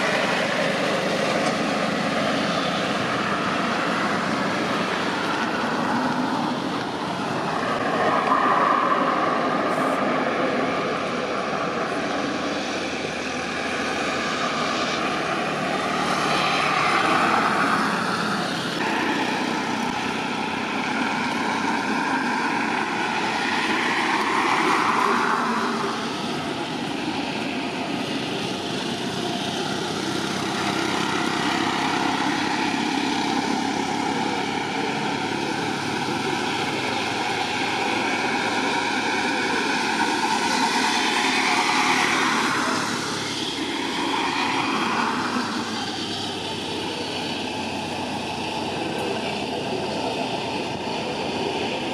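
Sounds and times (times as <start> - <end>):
jet engine roar with whine: 0.0 - 51.9.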